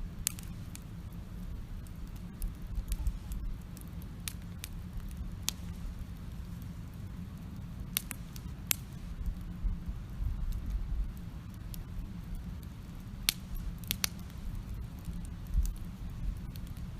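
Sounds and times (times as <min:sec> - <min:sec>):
campfire crackling and popping: 0:00.0 - 0:16.9
low rumble: 0:00.0 - 0:16.9.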